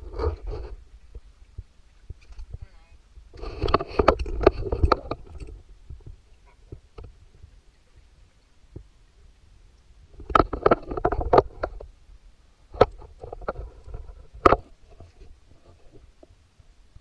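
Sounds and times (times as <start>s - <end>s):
water sloshing and gurgling: 0.0s - 17.0s.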